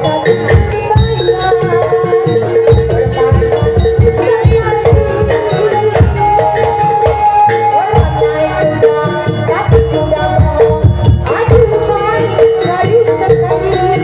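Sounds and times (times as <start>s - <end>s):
drums beating: 0.0s - 14.0s
held melody note: 0.0s - 14.0s.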